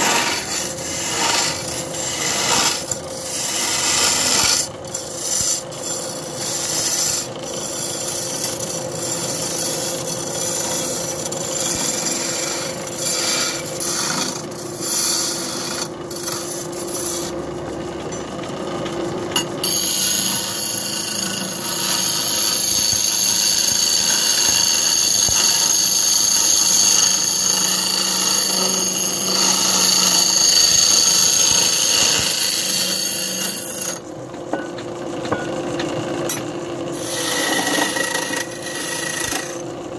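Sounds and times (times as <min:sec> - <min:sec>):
chisel scraping spinning wood: 0:00.0 - 0:39.9
lathe motor hum: 0:00.0 - 0:39.9.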